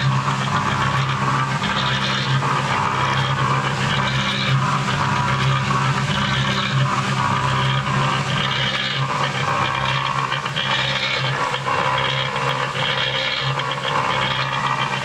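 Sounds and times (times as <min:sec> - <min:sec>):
concrete mix churning in drum: 0:00.0 - 0:15.0
motor hum: 0:00.0 - 0:15.0.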